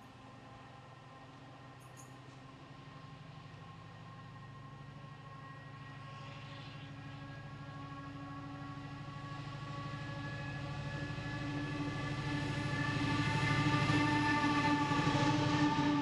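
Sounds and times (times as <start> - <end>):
diesel locomotive engine: 0.0 - 16.0.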